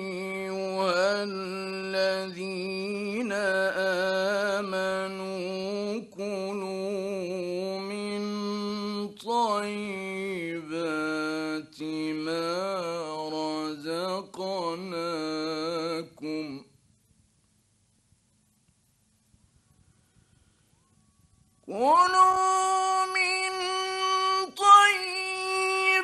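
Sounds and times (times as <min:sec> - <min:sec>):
man chanting recitation: 0:00.0 - 0:16.7, 0:21.7 - 0:26.0.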